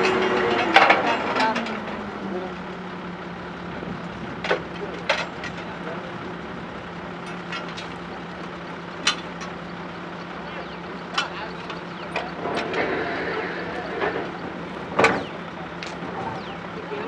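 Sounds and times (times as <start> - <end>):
drilling rig engine humming: 0.0 - 17.0.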